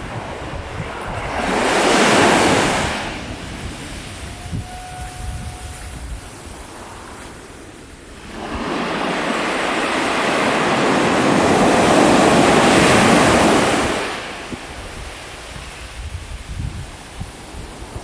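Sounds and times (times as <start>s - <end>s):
wave breaking on shore: 0.0s - 16.5s.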